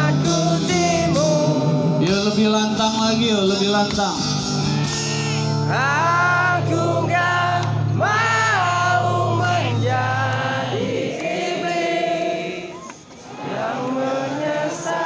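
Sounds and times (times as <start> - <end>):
live rock band with singing: 0.0 - 15.0.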